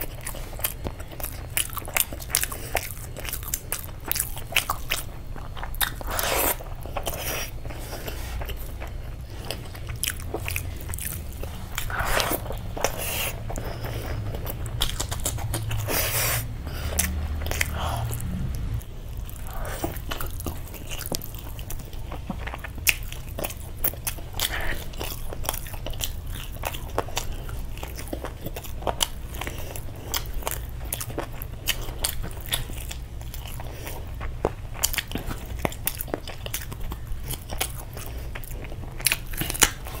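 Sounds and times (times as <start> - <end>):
chewing and biting meat: 0.0 - 40.0
steady low hum: 0.0 - 40.0.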